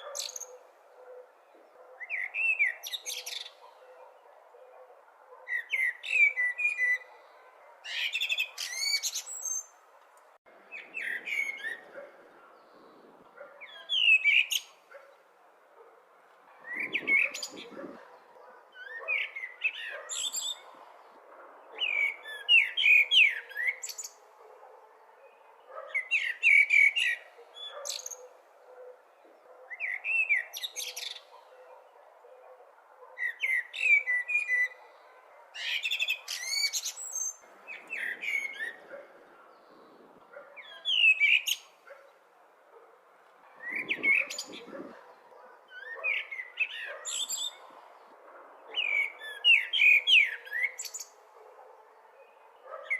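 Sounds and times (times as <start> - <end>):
blackbird singing: 0.0 - 9.8, 10.7 - 15.2, 16.6 - 24.2, 25.2 - 42.1, 43.5 - 47.8, 48.6 - 52.9.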